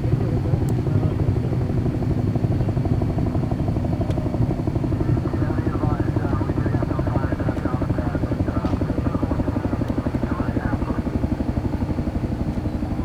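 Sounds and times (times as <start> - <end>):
rocket engine rumble and crackle: 0.0 - 13.0.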